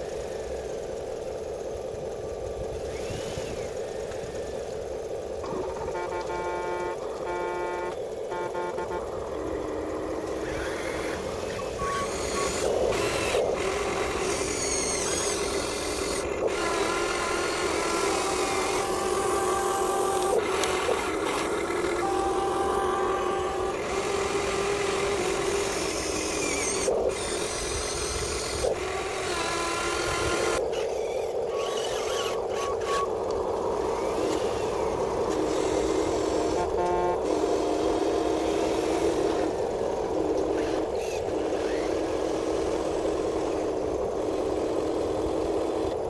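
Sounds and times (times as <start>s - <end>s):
small electric motors whirring: 1.5s - 46.0s.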